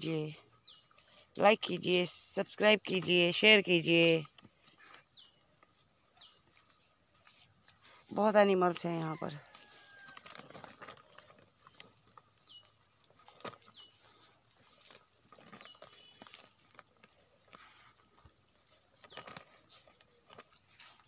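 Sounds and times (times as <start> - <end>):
faint ticks and rustles: 0.1 - 21.0.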